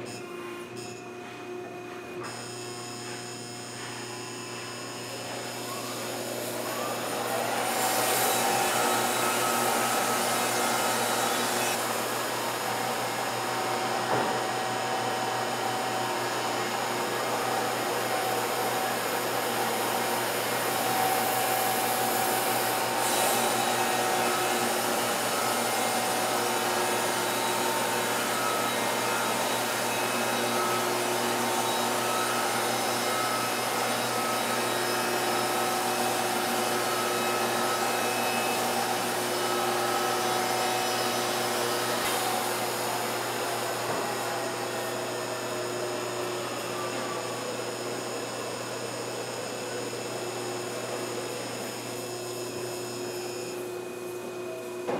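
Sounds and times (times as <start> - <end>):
band sawmill cutting log: 3.2 - 54.9.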